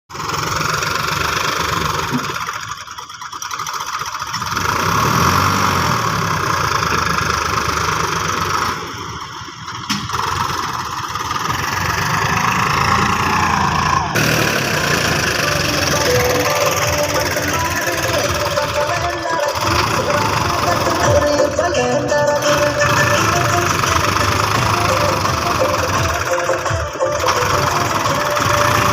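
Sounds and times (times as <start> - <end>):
tractor diesel engine running: 0.1 - 28.9.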